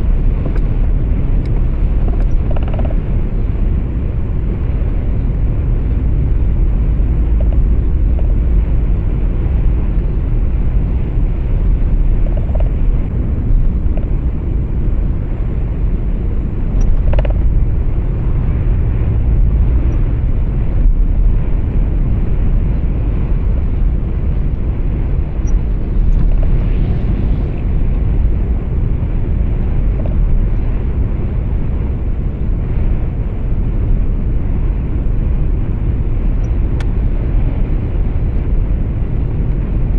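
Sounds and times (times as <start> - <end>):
truck engine rumble: 0.0 - 39.9.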